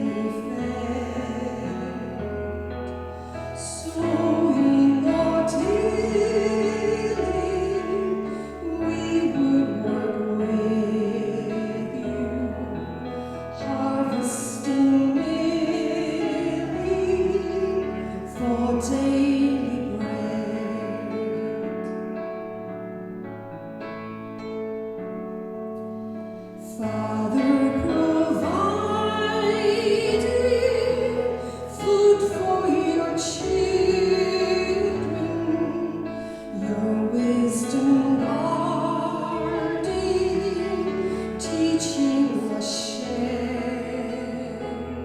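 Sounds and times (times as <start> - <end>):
voices singing a hymn: 0.0 - 2.7, 3.3 - 21.7, 26.6 - 45.0
keyboard chords: 0.0 - 45.0.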